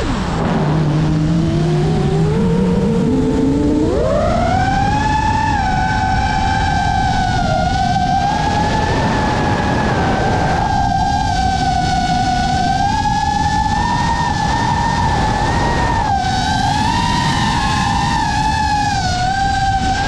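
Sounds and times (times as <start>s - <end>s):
drone motors whining: 0.0s - 20.0s
propeller air rush: 0.0s - 20.0s.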